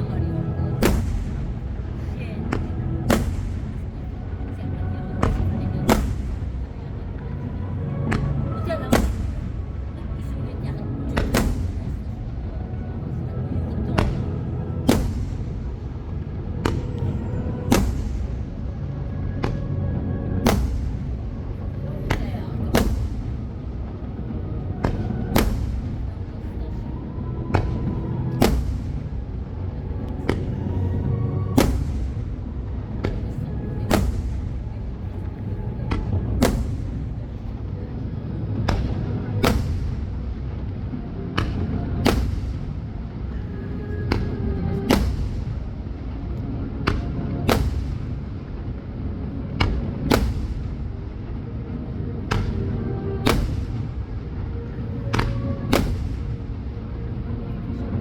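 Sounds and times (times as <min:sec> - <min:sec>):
steady low rumble: 0:00.0 - 0:58.0
fireworks bursting with echoing bangs: 0:00.8 - 0:10.2, 0:11.1 - 0:12.9, 0:13.9 - 0:19.6, 0:20.3 - 0:26.6, 0:27.5 - 0:43.4, 0:44.1 - 0:46.2, 0:46.8 - 0:51.7, 0:52.3 - 0:57.0.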